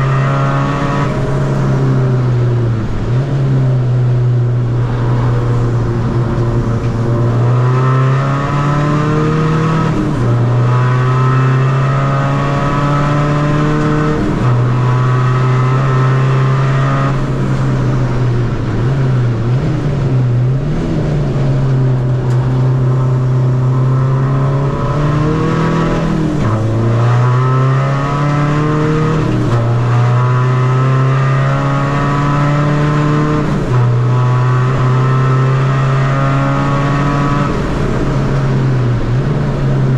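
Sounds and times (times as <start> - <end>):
diesel engine revving with gear changes: 0.0 - 39.9.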